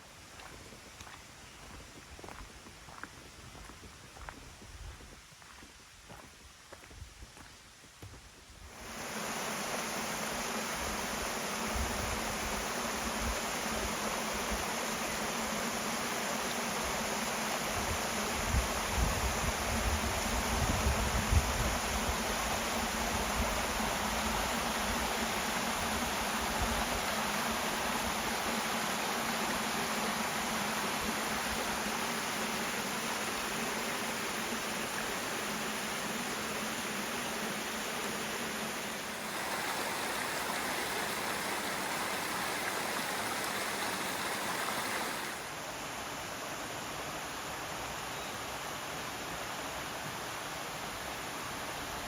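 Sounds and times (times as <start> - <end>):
stream rushing: 8.7 - 52.0.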